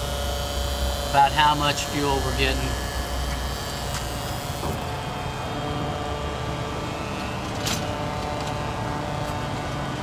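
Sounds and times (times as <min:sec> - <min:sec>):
oil pump humming: 0:00.0 - 0:10.0.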